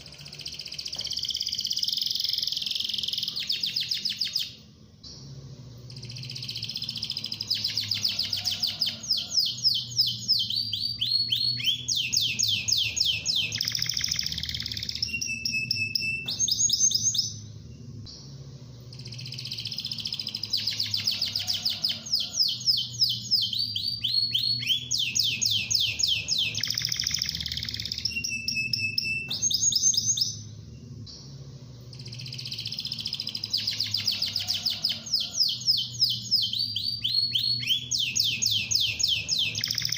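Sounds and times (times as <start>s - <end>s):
canary singing trills: 0.0s - 4.7s, 5.8s - 18.0s, 18.8s - 31.2s, 31.8s - 39.9s.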